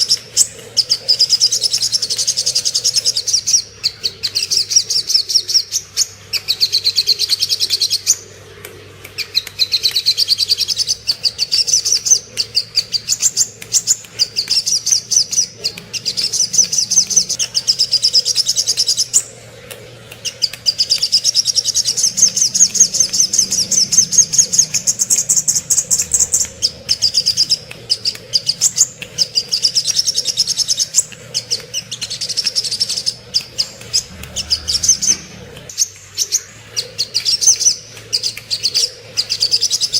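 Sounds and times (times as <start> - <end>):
bird calling rapid chips: 0.0 - 8.3, 9.1 - 39.9.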